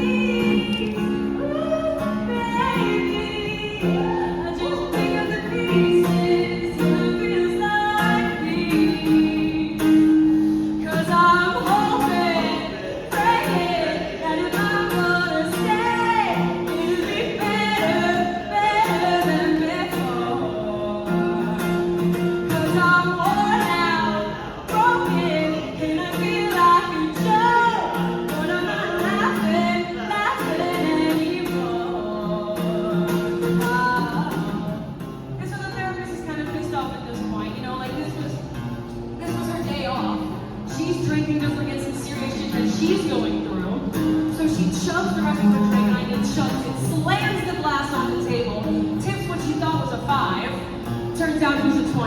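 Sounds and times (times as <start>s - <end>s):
woman singing: 0.0s - 38.6s, 39.2s - 52.0s
strummed acoustic guitar: 0.0s - 52.0s.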